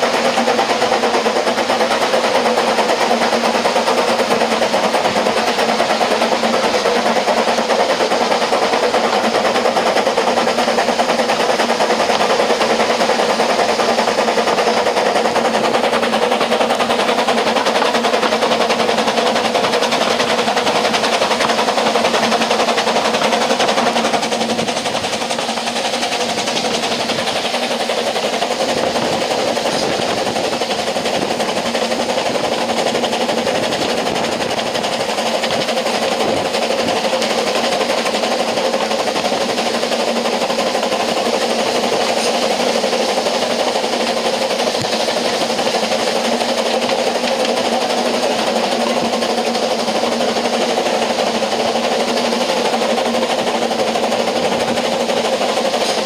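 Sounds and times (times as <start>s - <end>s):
train wheels clattering on track: 0.0s - 56.0s.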